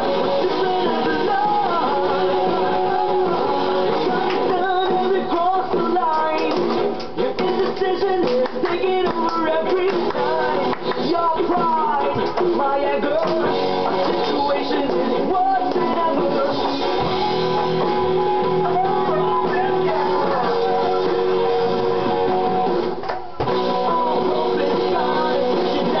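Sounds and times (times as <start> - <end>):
guitar: 0.0 - 26.0
person singing: 0.0 - 26.0.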